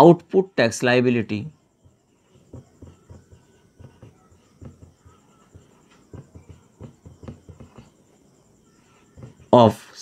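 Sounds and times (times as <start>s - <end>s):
marker writing on whiteboard: 1.5s - 9.6s.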